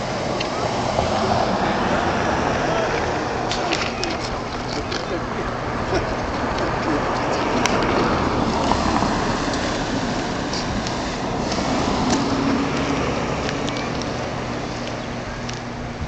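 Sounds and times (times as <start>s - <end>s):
low engine hum: 0.0s - 16.0s
road traffic noise: 0.0s - 16.0s.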